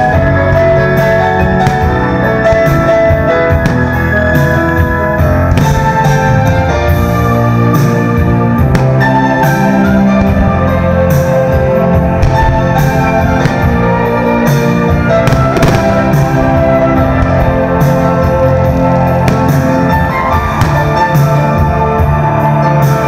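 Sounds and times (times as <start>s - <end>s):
music with held notes and drums: 0.0s - 23.0s.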